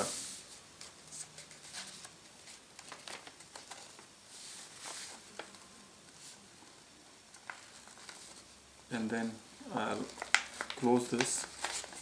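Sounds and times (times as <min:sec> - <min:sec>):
paper rustling and crinkling: 0:00.1 - 0:08.5, 0:09.8 - 0:12.0.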